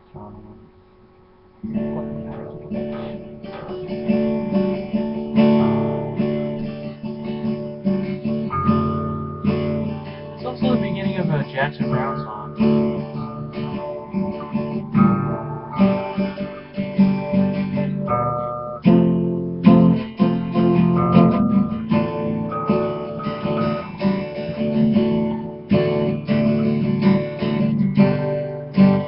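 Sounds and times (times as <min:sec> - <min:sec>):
acoustic guitar strummed and picked: 0:00.0 - 0:29.0.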